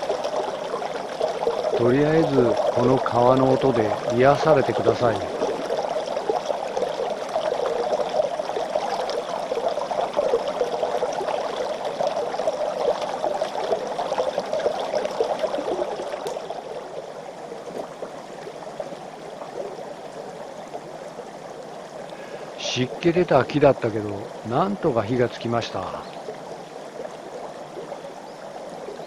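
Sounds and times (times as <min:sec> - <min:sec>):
river flowing over stones: 0:00.0 - 0:29.0.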